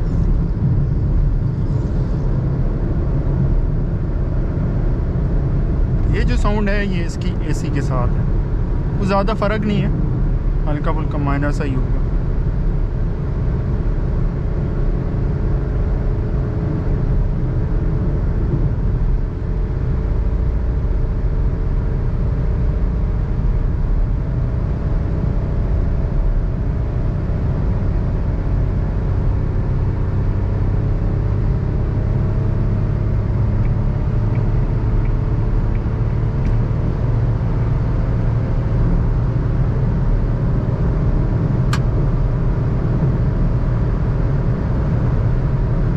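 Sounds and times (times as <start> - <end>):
car engine running hard: 0.0 - 45.9
road rumble: 0.0 - 45.9.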